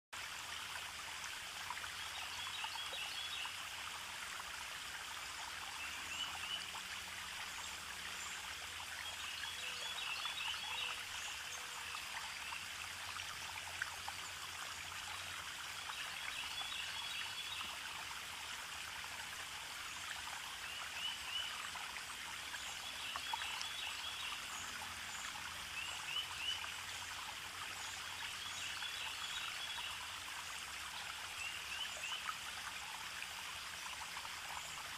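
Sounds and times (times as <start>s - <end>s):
running water: 0.2s - 34.9s.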